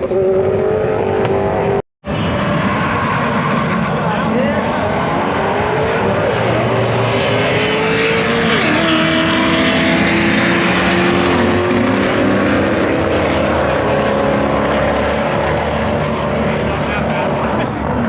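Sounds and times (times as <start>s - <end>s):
car engine: 0.0s - 18.0s.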